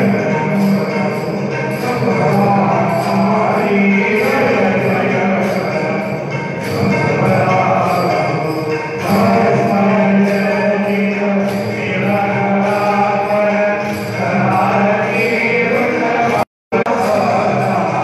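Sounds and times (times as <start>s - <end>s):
faint jingling: 0.0s - 18.0s.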